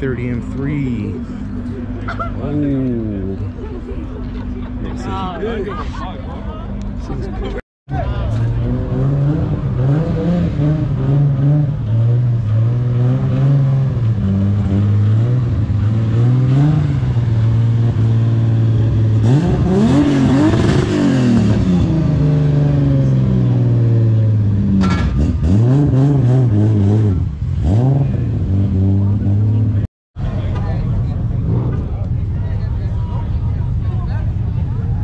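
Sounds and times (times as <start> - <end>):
car engine running and revving: 6.5 - 35.0.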